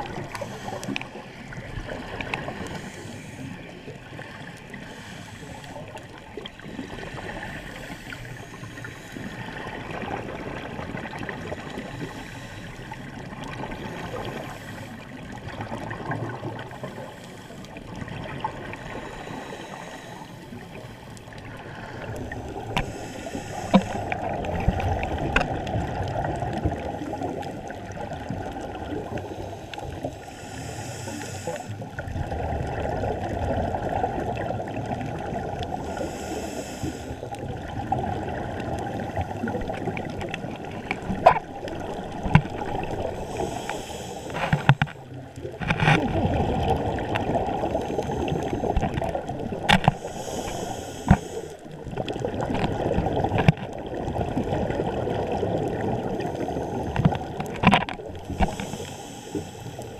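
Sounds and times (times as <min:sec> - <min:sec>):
bubbling exhaled air underwater: 0:00.0 - 0:59.9.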